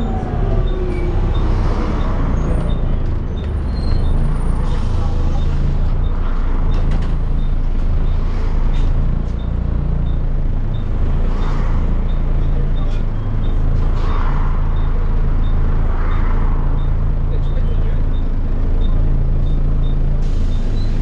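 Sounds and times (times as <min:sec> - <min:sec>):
bus diesel engine pulling: 0:00.0 - 0:21.0.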